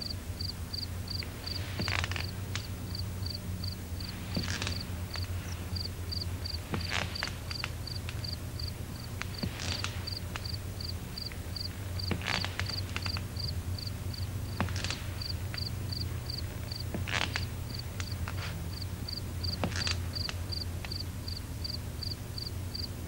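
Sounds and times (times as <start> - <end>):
cricket chirping: 0.0 - 23.0
steady low hum: 0.0 - 23.0
rustling bursts and clicks: 1.1 - 21.0.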